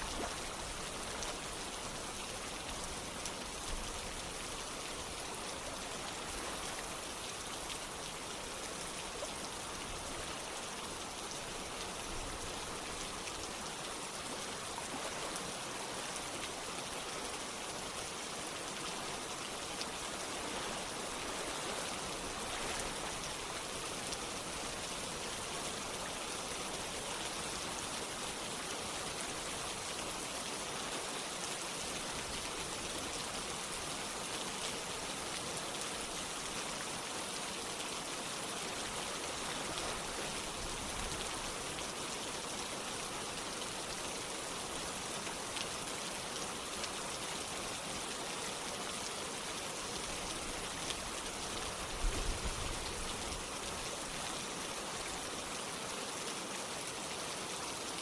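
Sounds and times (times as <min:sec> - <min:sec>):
steady rain: 0:00.0 - 0:58.0
stream of running water: 0:00.0 - 0:58.0.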